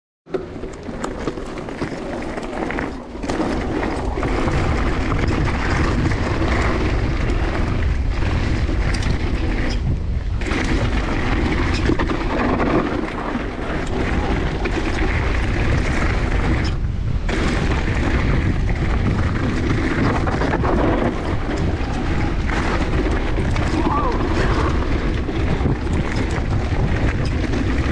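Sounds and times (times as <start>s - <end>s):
bike tyres on dirt trail: 0.3s - 27.9s
wind buffeting microphone: 0.4s - 27.9s.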